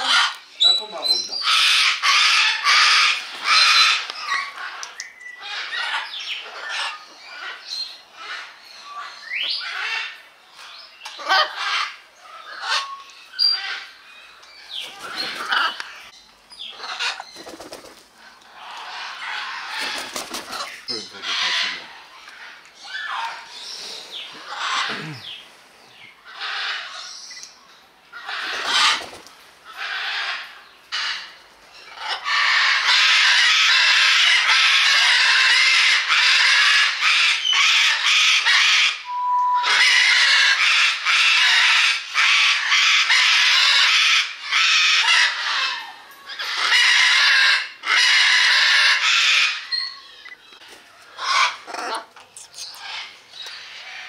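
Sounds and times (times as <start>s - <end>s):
birds squawking harshly: 0.0s - 27.4s, 28.1s - 54.0s.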